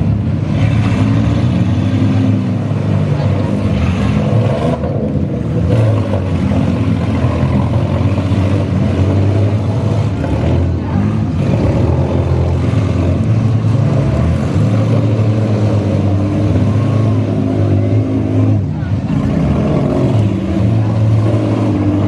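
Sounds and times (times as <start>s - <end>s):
minivan engines revving: 0.0s - 22.0s.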